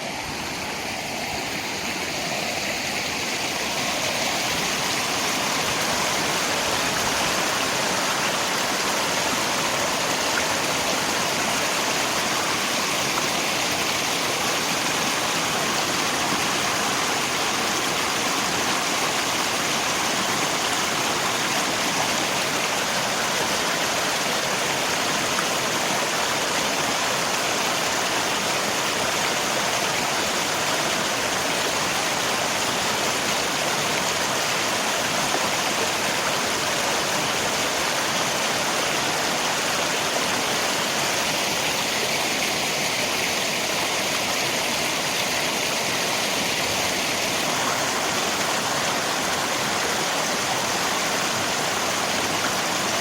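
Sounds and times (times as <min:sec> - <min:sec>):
flowing river water rushing: 0:00.0 - 0:53.0.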